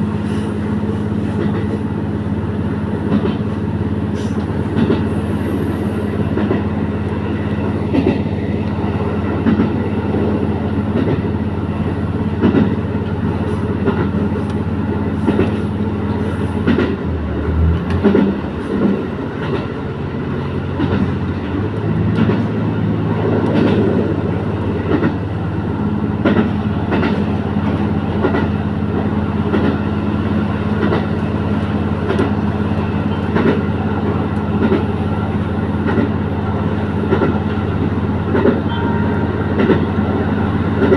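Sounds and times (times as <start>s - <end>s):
diesel railcar engine drone: 0.0s - 40.9s
train wheels clicking over rail joints: 0.2s - 1.8s, 2.9s - 19.8s, 20.6s - 25.4s, 26.1s - 36.2s, 36.9s - 38.8s, 39.5s - 40.9s.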